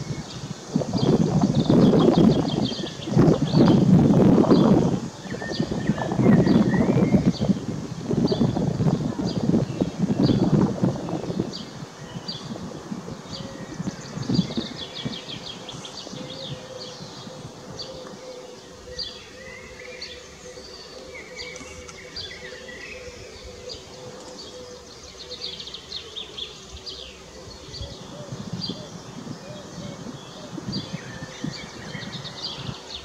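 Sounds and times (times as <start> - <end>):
songbirds chirping and singing: 0.0 - 33.0.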